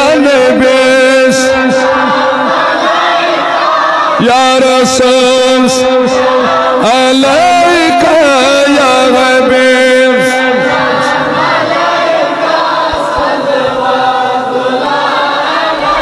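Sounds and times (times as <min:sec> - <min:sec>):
men chanting a hymn: 0:00.0 - 0:16.0.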